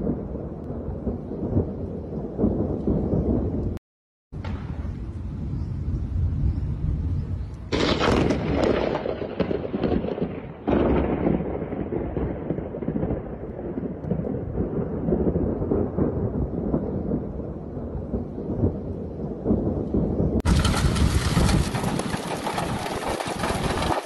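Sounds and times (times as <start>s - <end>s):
low rolling thunder rumble: 0.0s - 3.8s, 4.4s - 24.0s
thunderclaps: 0.0s - 24.0s.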